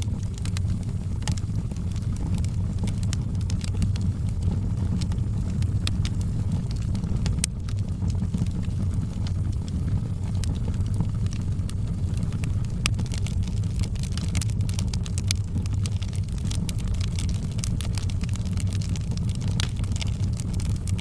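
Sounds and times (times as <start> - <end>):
burning logs crackling and popping: 0.0 - 21.0
low rumble of flames: 0.0 - 21.0.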